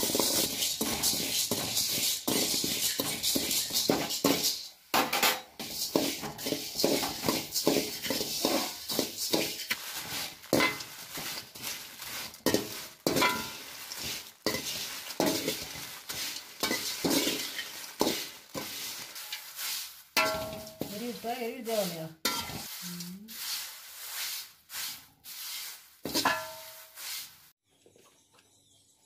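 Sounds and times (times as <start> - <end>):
metal spatula scraping pan: 0.0 - 27.4.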